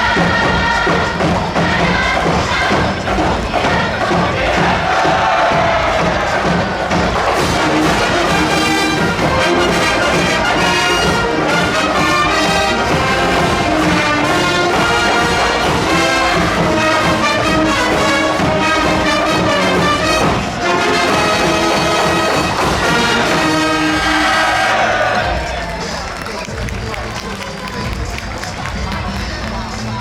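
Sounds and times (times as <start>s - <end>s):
brass band playing: 0.0s - 29.1s.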